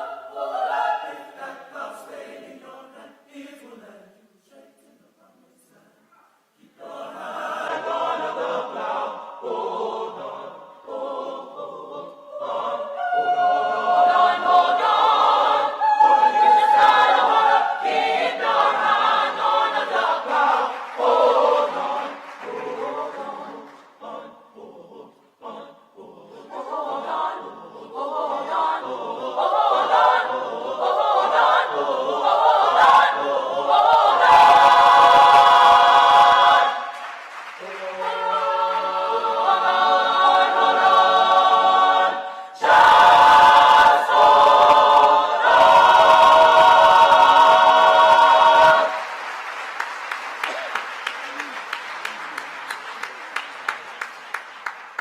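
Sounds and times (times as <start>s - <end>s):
church choir singing: 0.0s - 5.0s, 6.6s - 50.2s.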